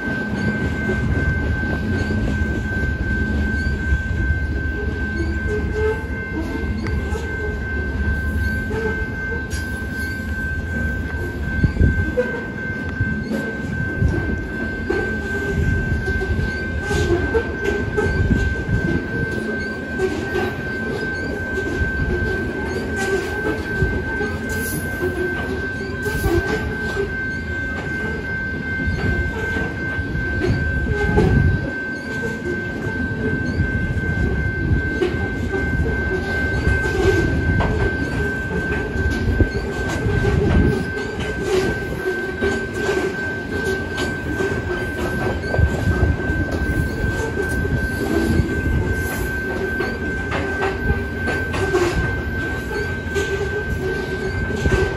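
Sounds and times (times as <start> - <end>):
steady high tone: 0.0 - 54.9
train cars clanking: 0.0 - 54.9
train wheels rumbling on rail: 0.0 - 54.9.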